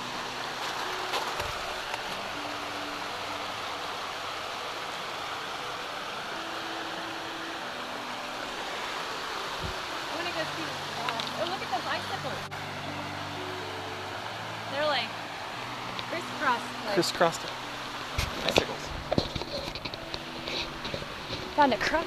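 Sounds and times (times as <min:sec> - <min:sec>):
waterfall rushing over rock: 0:00.0 - 0:22.0.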